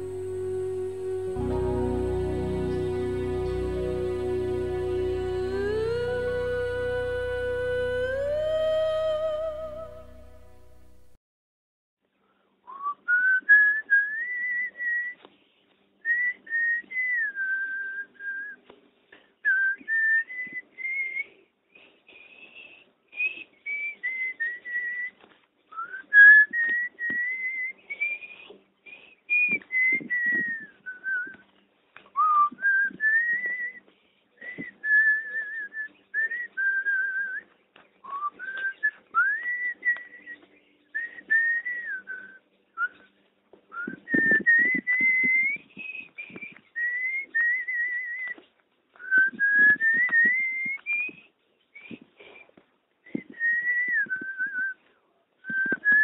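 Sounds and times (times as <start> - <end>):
person whistling a slow melody: 0.0 - 10.3, 12.7 - 15.2, 16.0 - 18.6, 19.4 - 21.4, 22.2 - 31.4, 32.2 - 33.8, 34.4 - 40.4, 41.0 - 43.1, 43.7 - 48.4, 49.0 - 54.8, 55.4 - 56.0.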